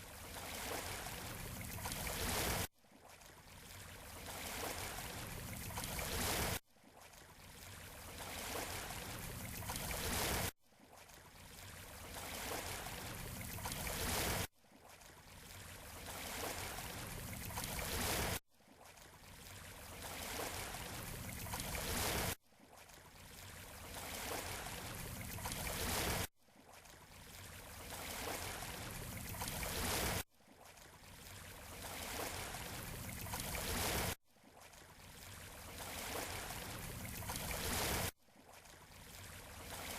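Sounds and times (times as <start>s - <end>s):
waves washing on shore: 0.0s - 14.5s, 15.2s - 18.4s, 19.2s - 22.4s, 23.1s - 39.9s.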